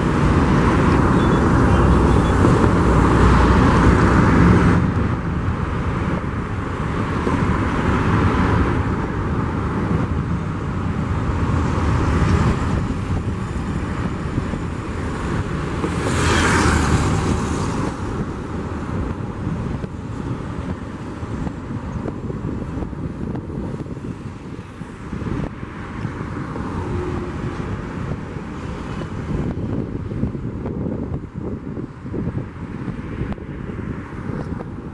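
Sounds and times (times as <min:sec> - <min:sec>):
jet engine rumble: 0:00.0 - 0:34.9.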